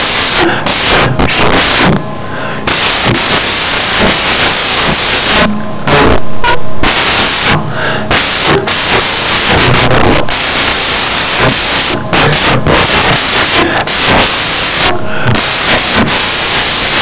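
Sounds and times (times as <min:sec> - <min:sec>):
loud static hiss: 0:00.0 - 0:17.0.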